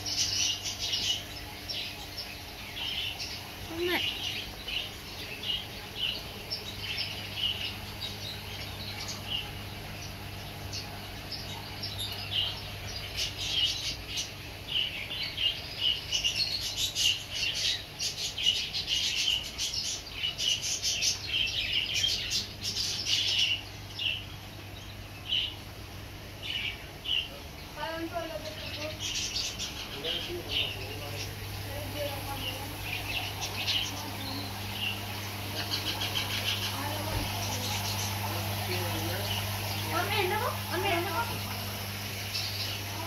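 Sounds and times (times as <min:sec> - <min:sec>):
small birds chirping: 0:00.0 - 0:43.0
steady low hum: 0:00.0 - 0:43.0.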